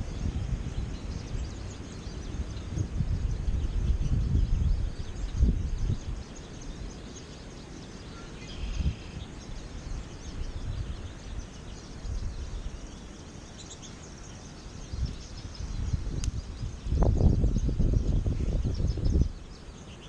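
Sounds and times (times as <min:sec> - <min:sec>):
wind buffeting microphone: 0:00.0 - 0:07.1, 0:07.9 - 0:19.9
finches twittering: 0:00.0 - 0:20.0.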